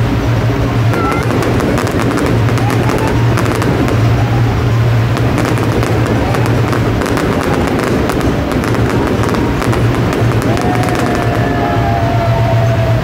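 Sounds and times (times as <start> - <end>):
steady low hum: 0.0 - 13.0
fireworks cracking and banging: 0.8 - 12.4.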